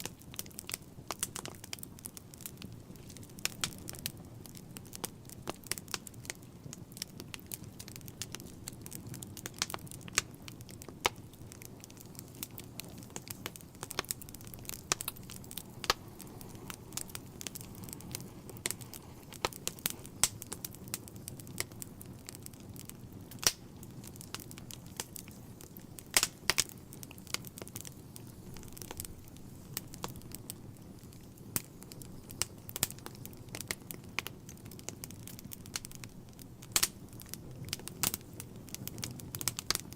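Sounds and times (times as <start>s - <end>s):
flames rushing: 0.0s - 39.9s
logs crackling and popping: 0.0s - 39.9s.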